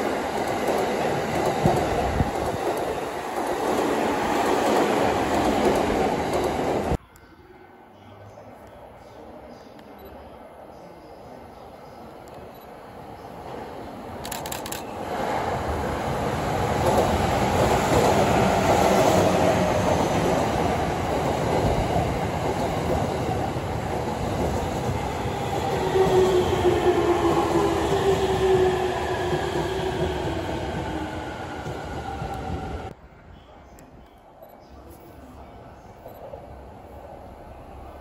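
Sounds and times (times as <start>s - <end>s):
train rail and wheel noise: 0.0s - 38.0s.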